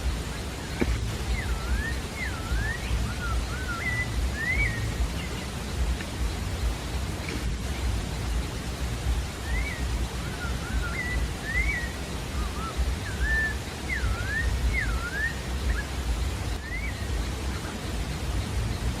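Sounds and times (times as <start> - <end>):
thrush singing whistled phrases: 0.0 - 7.1, 9.1 - 18.9
steady low rushing noise: 0.0 - 19.0.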